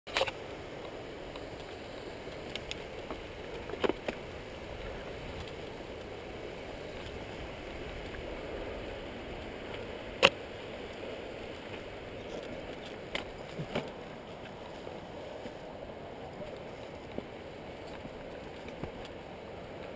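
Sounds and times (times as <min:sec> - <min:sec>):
bike tyres rolling on dirt: 0:00.3 - 0:19.9.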